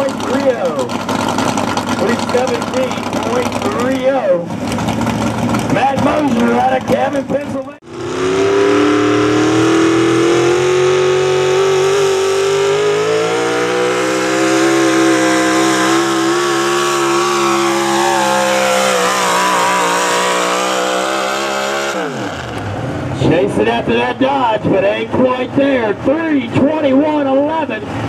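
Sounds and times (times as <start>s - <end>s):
pulling truck engine at high revs: 0.0s - 28.0s.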